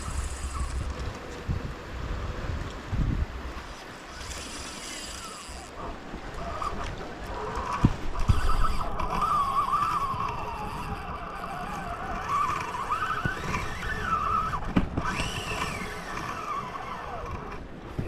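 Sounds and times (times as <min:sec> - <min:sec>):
fishing reel drag whining: 0:00.0 - 0:01.4, 0:03.6 - 0:17.6.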